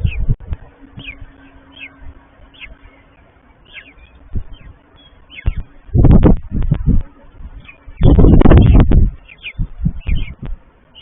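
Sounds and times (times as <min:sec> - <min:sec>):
wind buffeting microphone: 0:00.0 - 0:02.9, 0:04.2 - 0:10.7.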